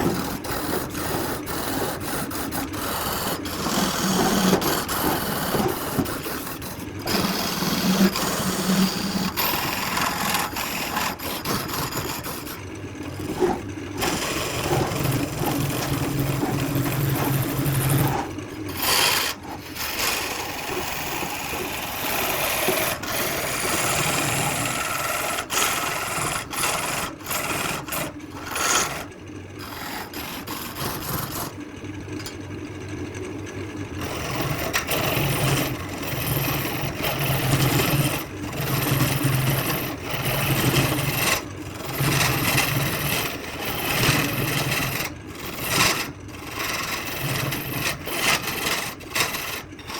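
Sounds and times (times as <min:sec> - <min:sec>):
tool rasping on spinning wood: 0:00.0 - 0:31.6, 0:34.0 - 0:49.9
lathe motor hum: 0:00.0 - 0:32.3, 0:33.1 - 0:49.9.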